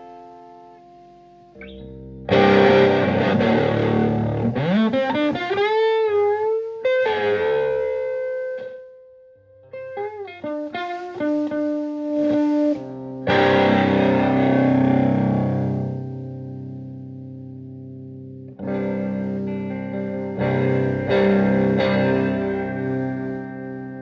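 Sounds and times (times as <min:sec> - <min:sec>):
electric guitar chords and notes: 0:00.0 - 0:24.0.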